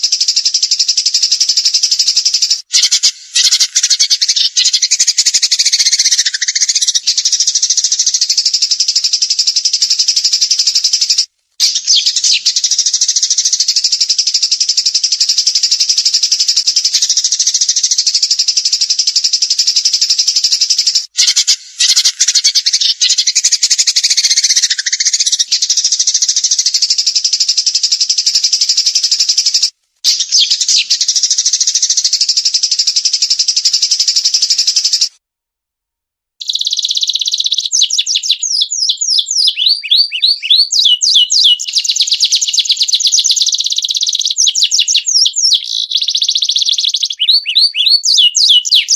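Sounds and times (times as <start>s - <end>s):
songbird rapid high trill: 0.0s - 35.1s, 36.4s - 48.9s.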